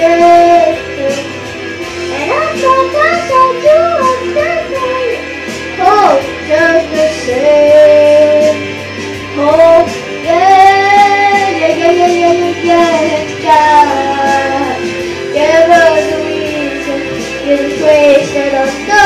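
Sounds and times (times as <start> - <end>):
boy singing pop ballad: 0.0 - 19.0
instrumental accompaniment: 0.0 - 19.0.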